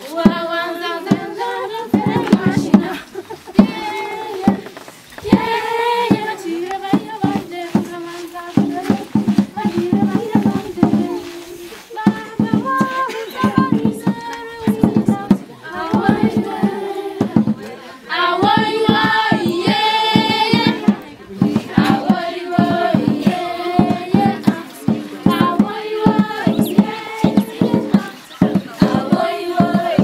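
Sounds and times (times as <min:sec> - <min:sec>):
girls singing in chorus: 0:00.0 - 0:30.0
rhythmic hand-clapping: 0:03.6 - 0:11.4, 0:12.1 - 0:30.0.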